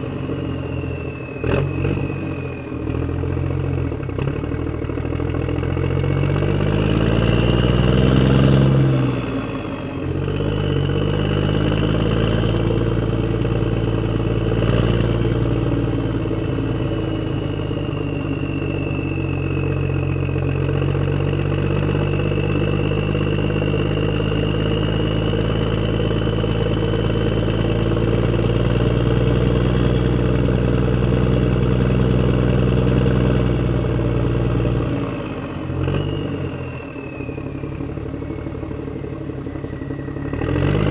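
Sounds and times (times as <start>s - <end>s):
high motor whine: 0.0s - 40.9s
rc truck engine drone: 0.0s - 40.9s.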